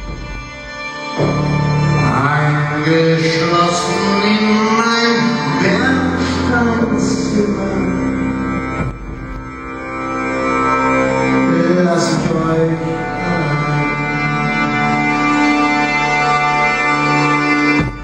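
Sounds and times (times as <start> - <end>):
organ-like electronic drone tones: 0.0 - 18.0.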